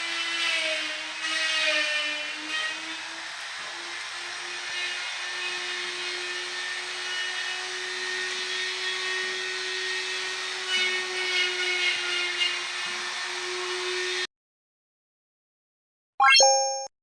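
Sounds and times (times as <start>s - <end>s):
small power tool humming: 0.0s - 14.3s.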